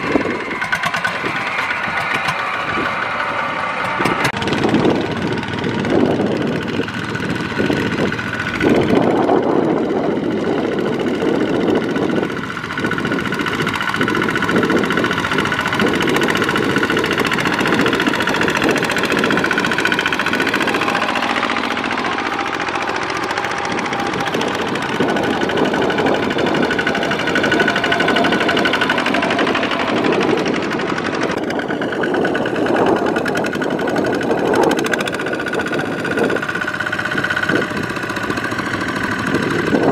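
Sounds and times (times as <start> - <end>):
diesel tractor engines knocking: 0.0 - 39.9.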